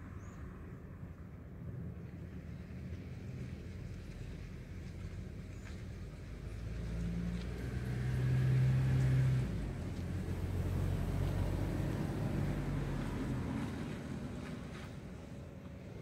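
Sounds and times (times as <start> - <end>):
engine passing by: 2.3 - 16.0.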